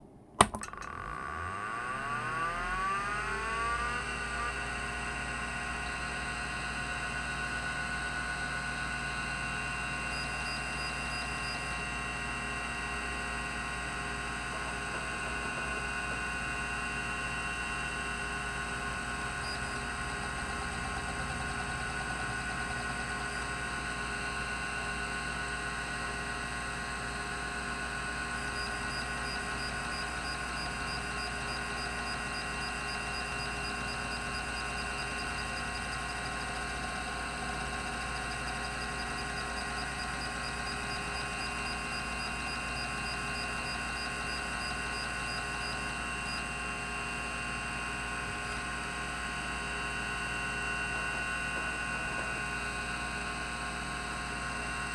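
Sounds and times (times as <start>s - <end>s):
hard drive spinning whine: 0.5s - 54.9s.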